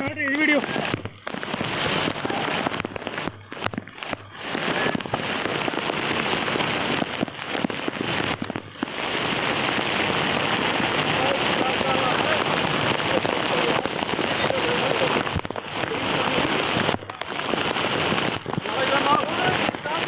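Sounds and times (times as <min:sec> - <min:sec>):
heavy rain with crackly drops: 0:00.0 - 0:20.0.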